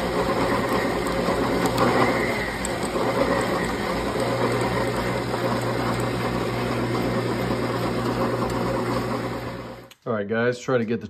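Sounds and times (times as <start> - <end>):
metal lathe humming: 0.0 - 9.9.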